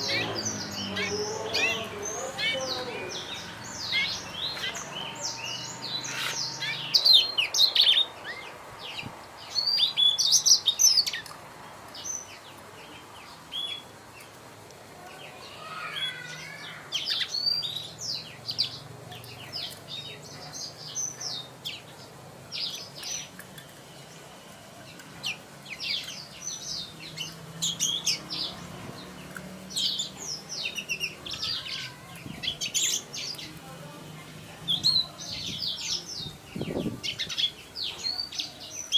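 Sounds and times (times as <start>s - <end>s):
bird singing chirps and trills: 0.0s - 14.4s, 15.0s - 38.9s.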